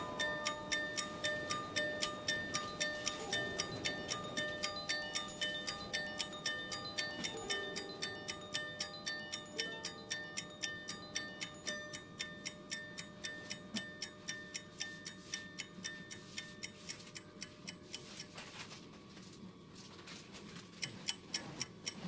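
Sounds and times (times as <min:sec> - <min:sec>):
music with ticking beat: 0:00.0 - 0:18.8, 0:19.8 - 0:22.0.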